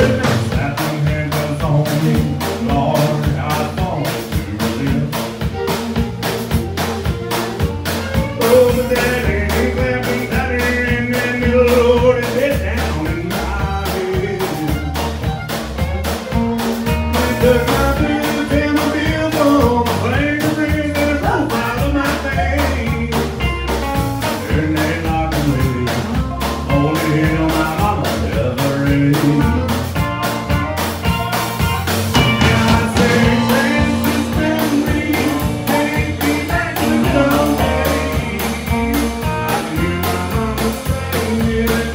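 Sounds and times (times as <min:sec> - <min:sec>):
man singing: 0:00.0 - 0:05.8, 0:08.0 - 0:15.2, 0:16.8 - 0:30.6, 0:32.1 - 0:41.9
drum kit beat: 0:00.0 - 0:41.9
electric and acoustic guitars: 0:00.0 - 0:41.9
fiddle: 0:00.0 - 0:41.9.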